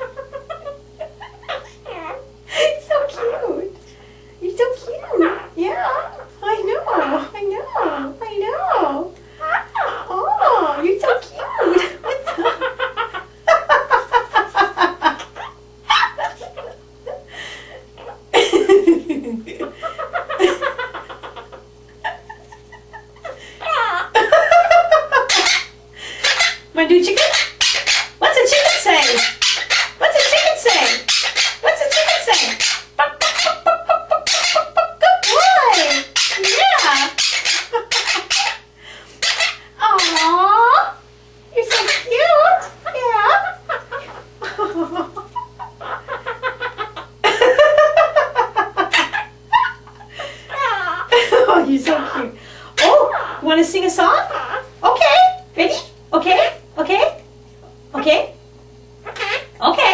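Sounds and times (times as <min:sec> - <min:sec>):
parrot chattering and calling: 0:00.0 - 0:03.7, 0:04.8 - 0:17.1, 0:17.7 - 0:18.4, 0:20.0 - 0:41.0, 0:41.6 - 0:57.2, 0:59.0 - 0:59.9.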